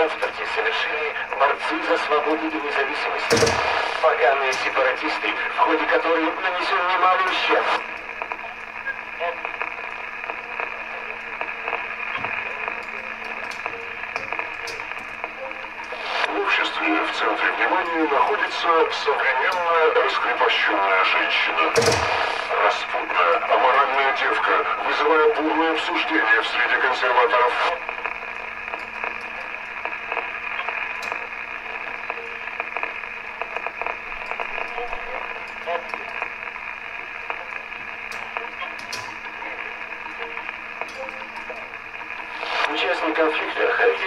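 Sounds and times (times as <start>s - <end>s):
faint crackles and ticks: 0.0s - 44.0s
radio static hiss: 0.0s - 44.0s.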